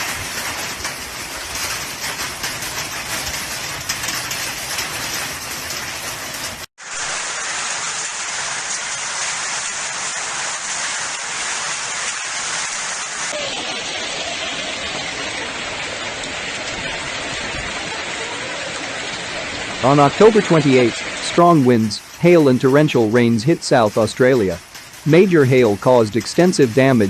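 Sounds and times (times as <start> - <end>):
hail and heavy rain pelting: 0.0 - 27.0.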